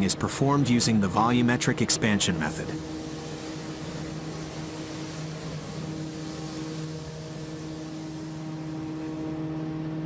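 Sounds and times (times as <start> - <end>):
even hiss: 0.0 - 10.0
machinery humming: 0.0 - 10.0.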